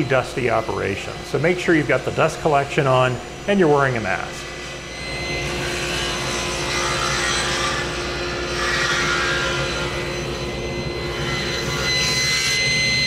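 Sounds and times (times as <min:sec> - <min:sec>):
dust collector running: 0:00.0 - 0:13.0
motor hum: 0:00.0 - 0:13.0
table saw cutting wood: 0:00.0 - 0:13.0.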